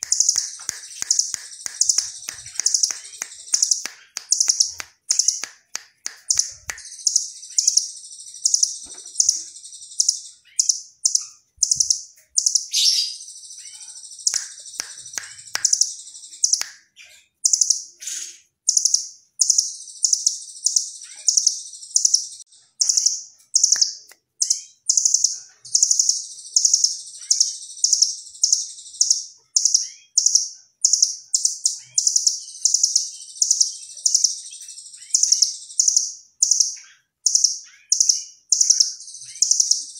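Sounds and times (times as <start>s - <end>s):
bird singing rapid high trills: 0.0s - 39.9s.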